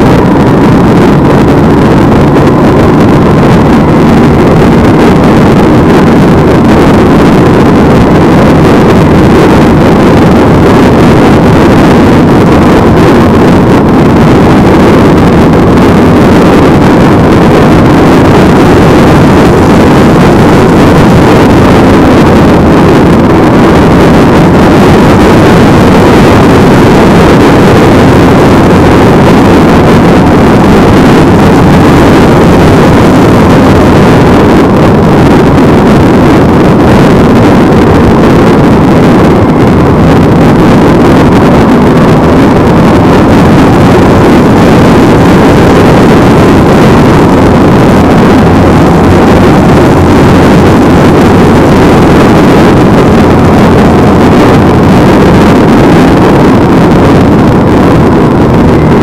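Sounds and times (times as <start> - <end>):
motorcycle engine: 0.0 - 55.4
road noise: 0.0 - 59.0
wind rush on microphone: 0.0 - 59.0.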